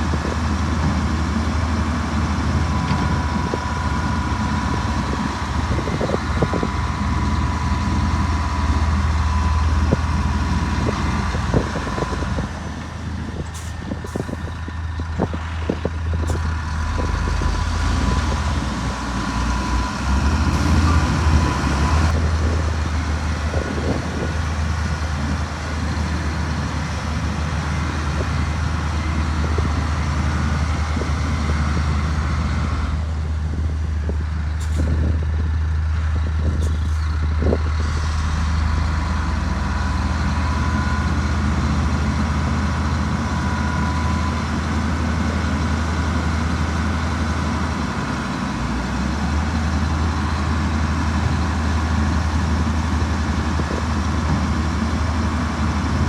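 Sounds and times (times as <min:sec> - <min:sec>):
diesel machinery droning: 0:00.0 - 0:56.0.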